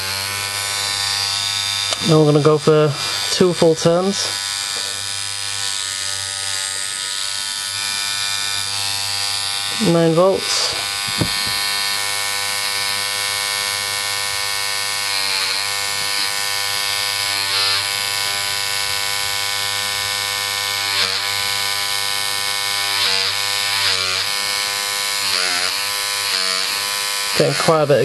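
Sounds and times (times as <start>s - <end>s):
tattoo machine buzzing: 0.0s - 28.0s.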